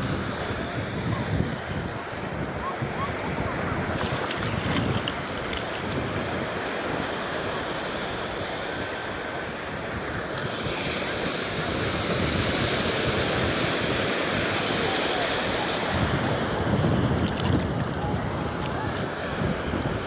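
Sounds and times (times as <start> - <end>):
sea surf washing onto beach: 0.0 - 20.0
wind on microphone: 0.0 - 20.0.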